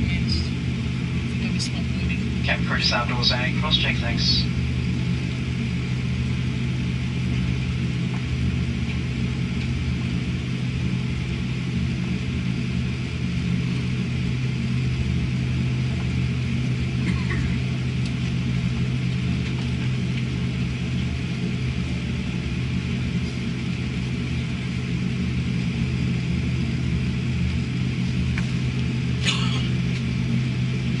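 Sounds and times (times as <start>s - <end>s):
airliner cabin droning hum: 0.0s - 31.0s.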